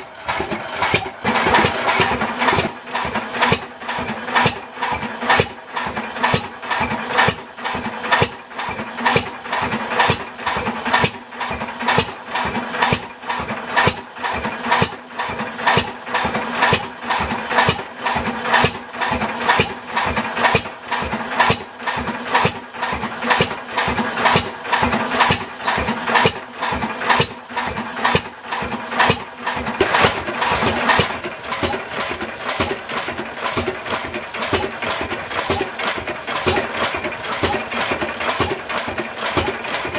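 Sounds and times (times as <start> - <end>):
stationary gas engine firing: 0.0 - 39.9.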